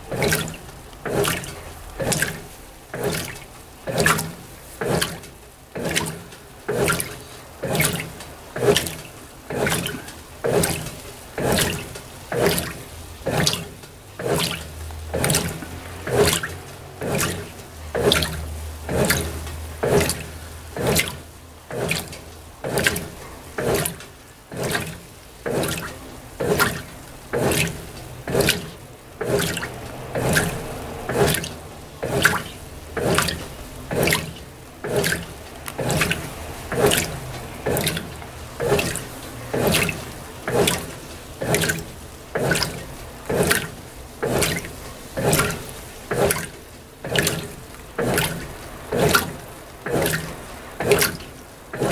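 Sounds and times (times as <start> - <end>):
washing machine water sloshing: 0.0 - 51.9.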